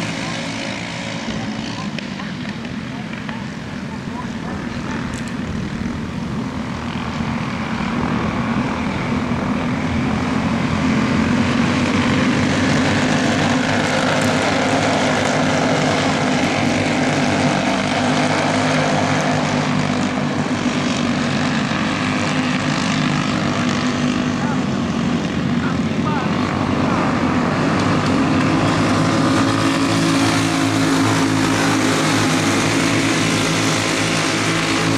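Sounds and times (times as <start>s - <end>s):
go-kart engines buzzing: 0.0s - 34.9s.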